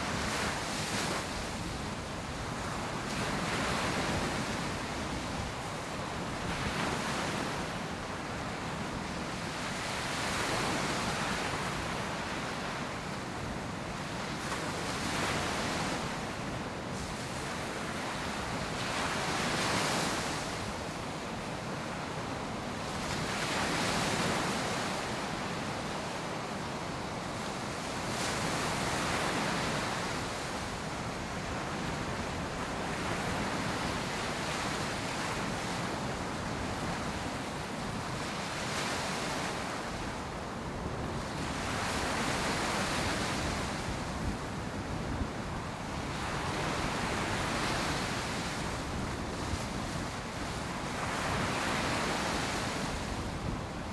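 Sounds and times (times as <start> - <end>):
ocean waves breaking on beach: 0.0 - 53.9.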